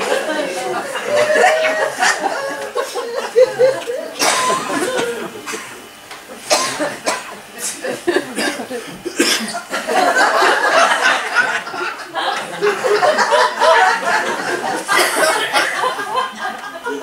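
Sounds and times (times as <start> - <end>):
audience laughing: 0.0 - 17.0.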